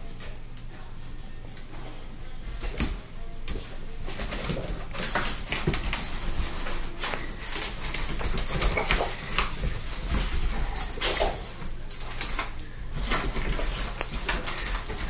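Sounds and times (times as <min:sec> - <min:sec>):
dog claws clicking on tile: 0:02.6 - 0:15.0.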